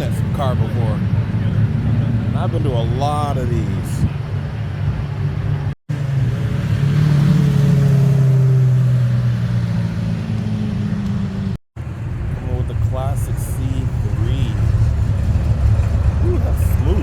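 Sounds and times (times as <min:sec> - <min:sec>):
car engine rumbling past: 0:00.0 - 0:17.0.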